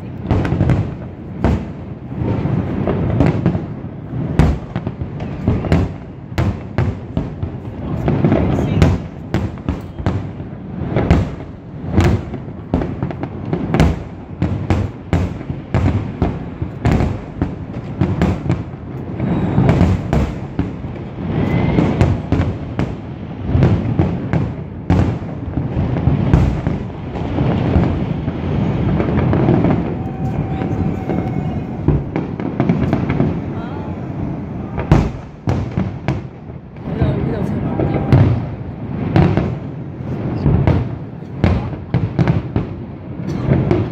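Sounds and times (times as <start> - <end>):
fireworks bursting: 0.0 - 43.9.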